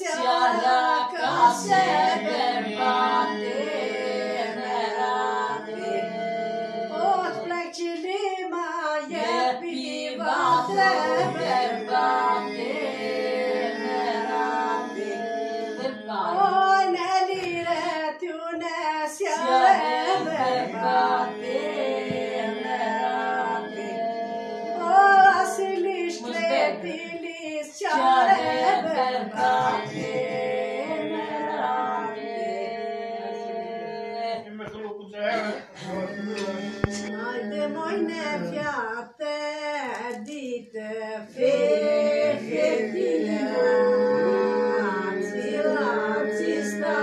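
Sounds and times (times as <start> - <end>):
voices singing folk song: 0.0 - 47.0.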